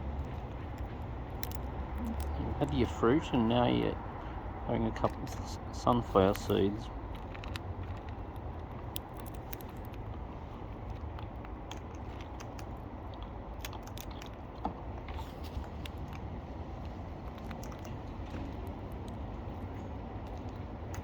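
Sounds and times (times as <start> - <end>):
parrot cracking seeds: 0.0 - 21.0.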